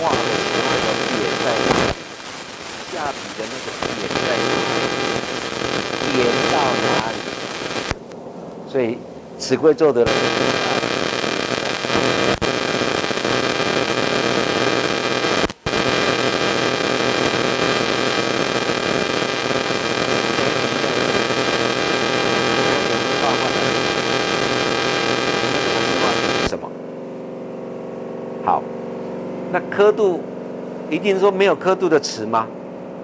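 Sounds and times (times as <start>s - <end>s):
electrical hum and static: 0.0s - 33.0s.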